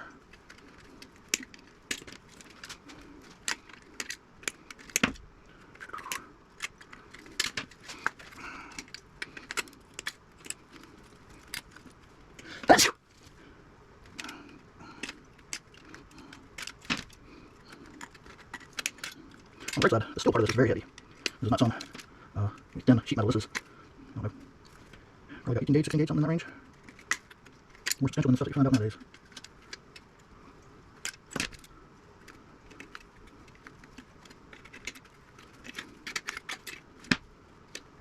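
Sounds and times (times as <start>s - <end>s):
metal parts clicking and clinking: 0.3s - 12.1s, 14.0s - 23.7s, 25.7s - 30.2s, 30.9s - 37.9s.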